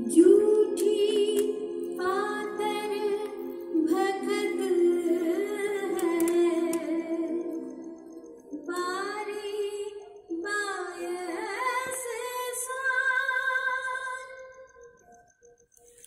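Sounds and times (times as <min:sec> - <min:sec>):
woman singing: 0:00.0 - 0:14.6.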